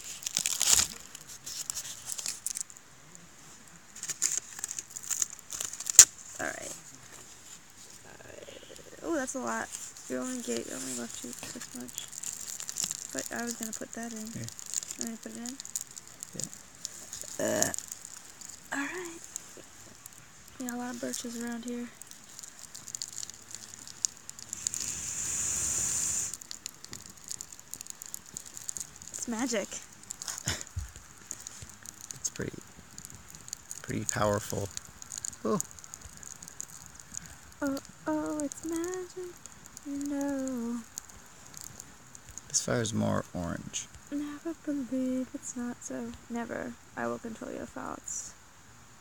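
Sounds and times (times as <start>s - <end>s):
campfire crackling and popping: 0.0s - 49.0s
fire flaring with hissing rush: 0.0s - 49.0s.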